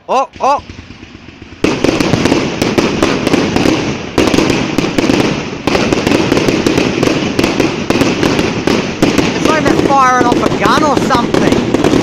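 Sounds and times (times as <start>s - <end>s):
fireworks crackling: 0.1s - 12.0s.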